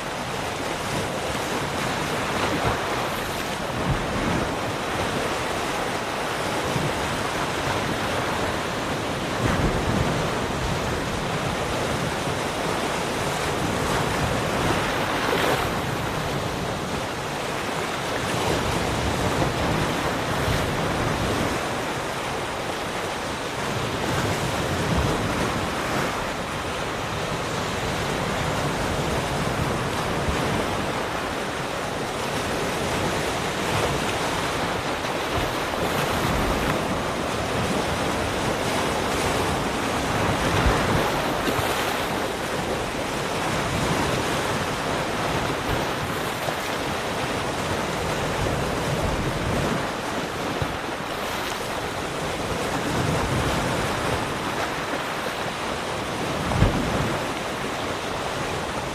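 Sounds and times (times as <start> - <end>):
ocean waves breaking on shore: 0.0 - 58.9
wind on microphone: 0.0 - 58.9.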